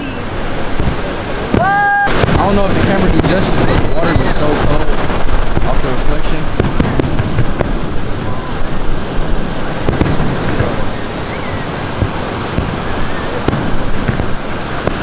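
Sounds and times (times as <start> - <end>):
ocean surf washing ashore: 0.0 - 15.0
wind buffeting microphone: 0.0 - 15.0.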